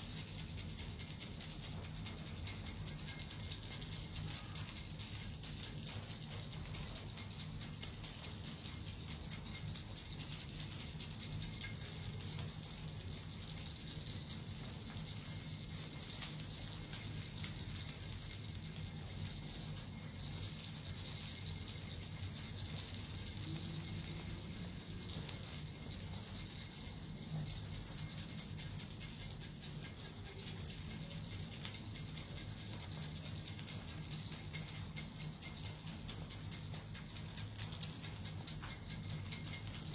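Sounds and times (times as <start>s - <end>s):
bells and metal rattle jingling: 0.0s - 39.9s.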